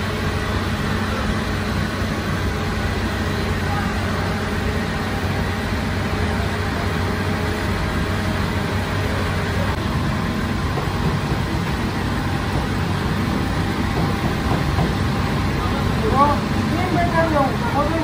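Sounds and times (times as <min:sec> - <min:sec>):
machine hum with rushing noise: 0:00.0 - 0:18.0.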